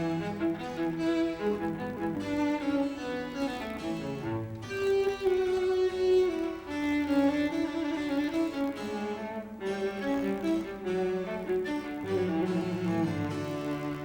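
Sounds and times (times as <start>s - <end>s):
cello: 0.0s - 14.0s
violin: 0.0s - 14.0s.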